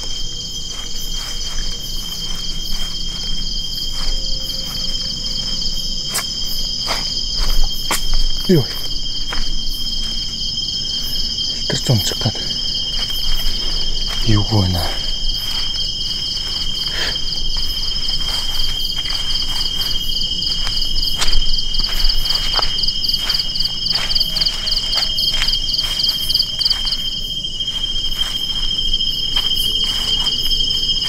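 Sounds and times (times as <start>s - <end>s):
insect pulsing trill: 0.0s - 31.0s
insects buzzing: 0.0s - 31.0s.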